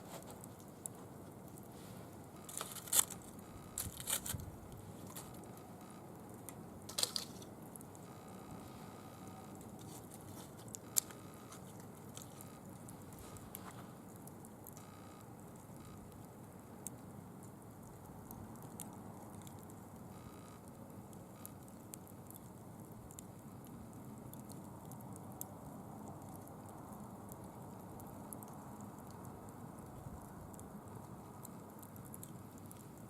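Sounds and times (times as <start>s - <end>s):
bonfire crackling and hissing: 0.0s - 33.0s.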